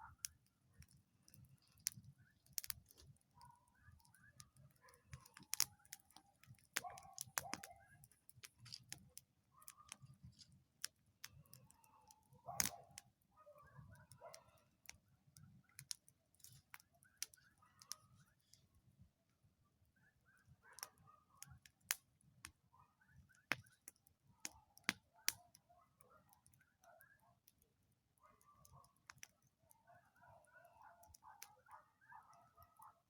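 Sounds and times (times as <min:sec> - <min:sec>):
bonfire crackling: 0:00.0 - 0:13.1, 0:13.7 - 0:32.4.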